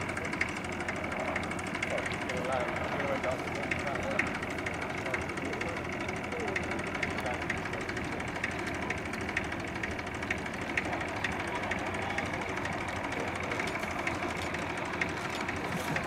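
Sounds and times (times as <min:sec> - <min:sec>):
propeller plane engine: 0:00.0 - 0:16.0.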